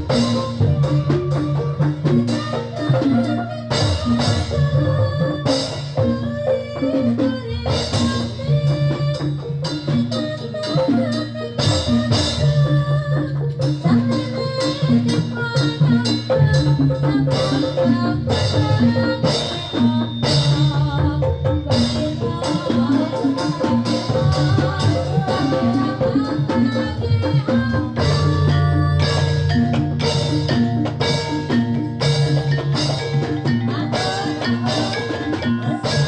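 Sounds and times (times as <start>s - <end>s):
drum strokes: 0.0s - 36.0s
pitched metal percussion melody: 0.0s - 36.0s.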